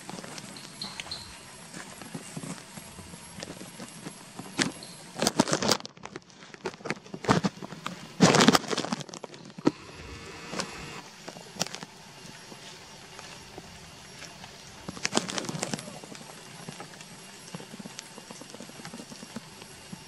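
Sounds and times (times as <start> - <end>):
outdoor background noise: 0.0 - 20.0
rustling and crackling: 0.0 - 20.0.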